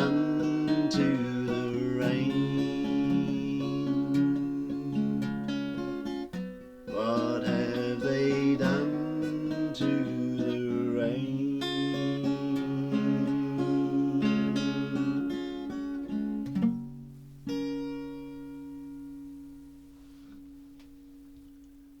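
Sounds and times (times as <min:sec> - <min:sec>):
acoustic guitar picking: 0:00.0 - 0:22.0.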